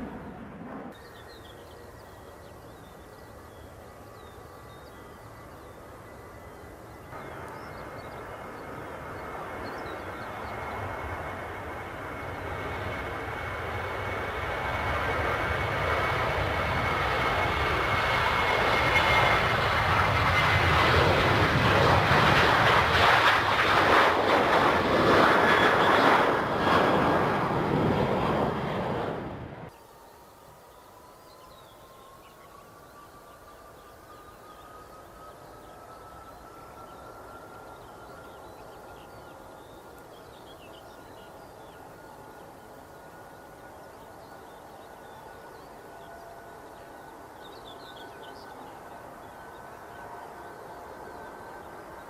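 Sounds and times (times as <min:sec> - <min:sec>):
jet engines roaring and whining: 0:00.0 - 0:52.0.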